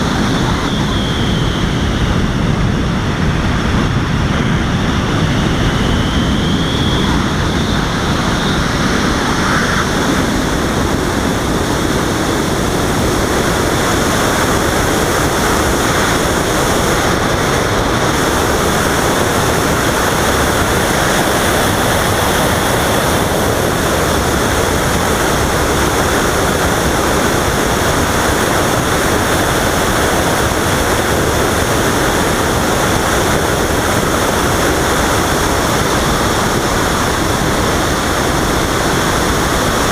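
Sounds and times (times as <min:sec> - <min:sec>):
faint high whine: 0:00.0 - 0:39.9
wind rushing on microphone: 0:00.0 - 0:39.9.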